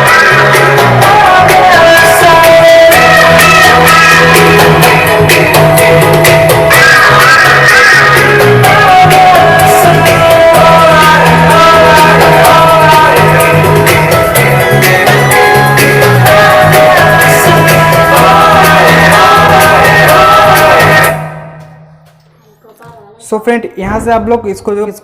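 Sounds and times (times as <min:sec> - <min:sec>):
song with singing through speaker: 0:00.0 - 0:25.0.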